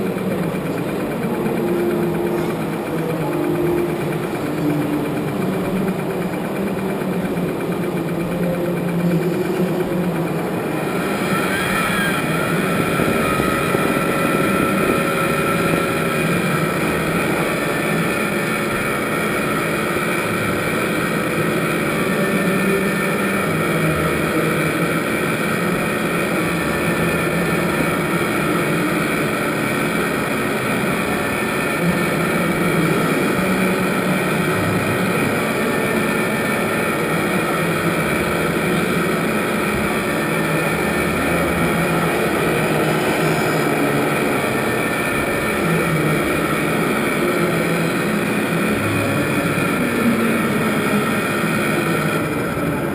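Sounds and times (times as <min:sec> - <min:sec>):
high-pitched whine: 0:00.0 - 0:52.9
mechanical running noise: 0:00.0 - 0:52.9.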